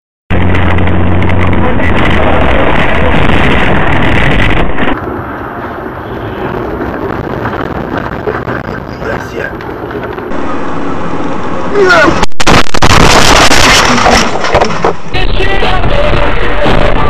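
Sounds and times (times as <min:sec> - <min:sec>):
distorted road and wind rumble: 0:00.3 - 0:17.0
road noise: 0:00.3 - 0:17.0.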